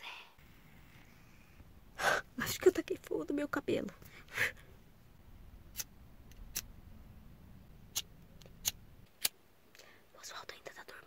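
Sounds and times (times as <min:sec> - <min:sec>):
low hum: 0:00.1 - 0:09.1.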